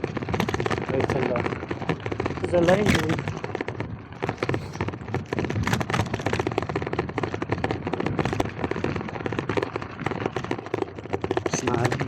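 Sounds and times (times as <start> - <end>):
bike crackle and rattle: 0.0 - 12.0
low riding rumble: 0.0 - 12.0.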